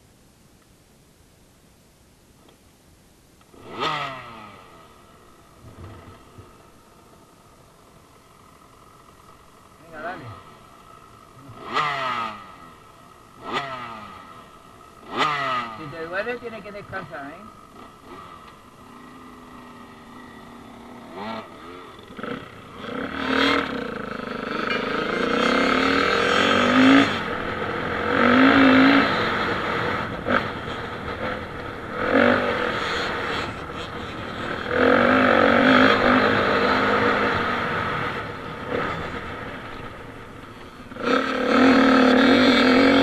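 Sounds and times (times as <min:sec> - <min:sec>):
dirt bike engine revving: 0:03.5 - 0:43.0.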